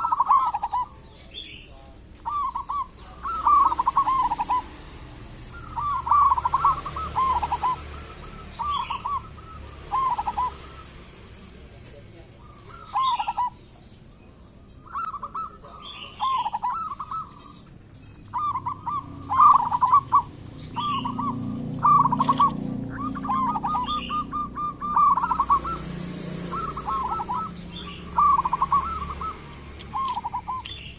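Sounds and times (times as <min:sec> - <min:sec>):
doves cooing: 0:00.0 - 0:01.2, 0:02.2 - 0:30.9
small bird chirping: 0:00.0 - 0:30.9.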